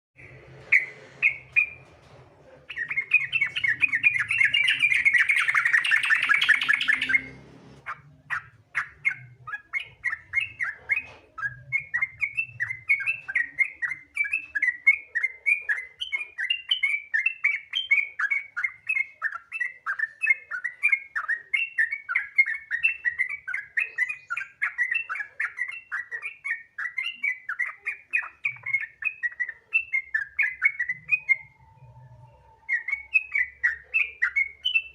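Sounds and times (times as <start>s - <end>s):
bulbul singing: 2.7s - 34.9s.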